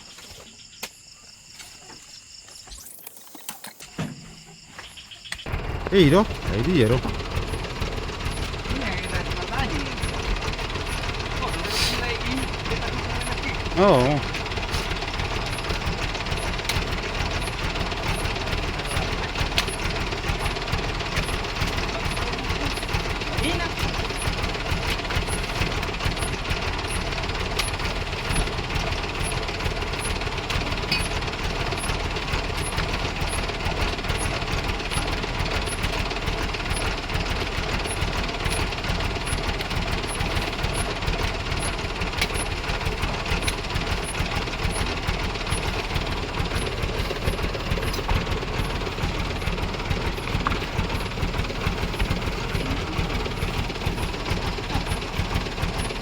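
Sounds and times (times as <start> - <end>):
diesel truck engine clattering: 5.3 - 56.0.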